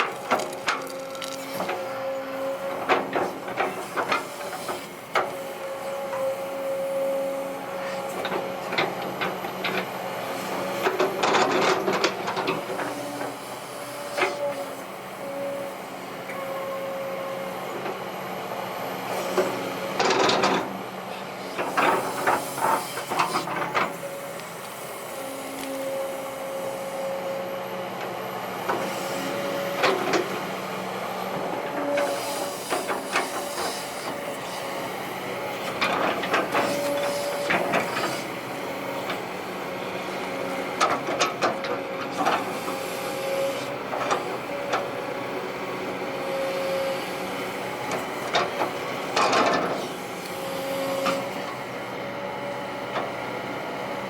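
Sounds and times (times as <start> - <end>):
excavator engine whining: 0.0 - 54.0.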